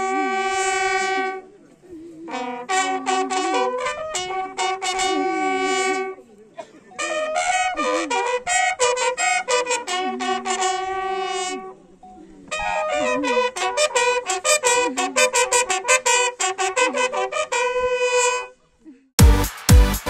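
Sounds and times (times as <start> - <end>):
bugle call: 0.0 - 1.5, 2.2 - 6.2, 7.0 - 11.8, 12.5 - 18.6.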